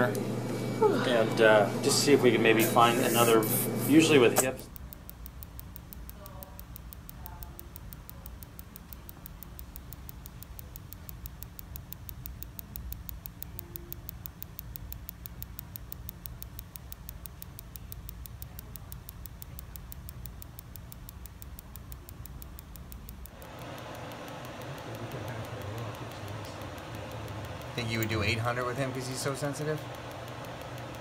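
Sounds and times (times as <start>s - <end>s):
rapid even clicks: 4.4s - 31.0s.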